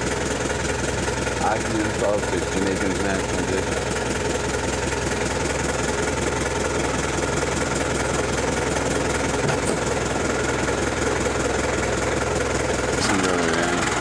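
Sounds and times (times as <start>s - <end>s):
motor engine running: 0.0s - 14.0s.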